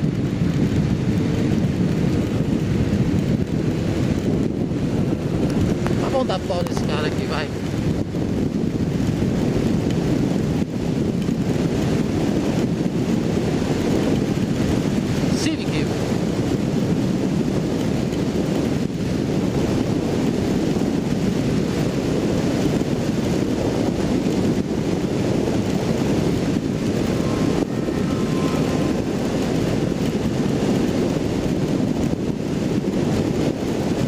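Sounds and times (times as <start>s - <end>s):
motorcycle engine running: 0.0s - 34.0s
wind rush over microphone: 0.0s - 34.0s.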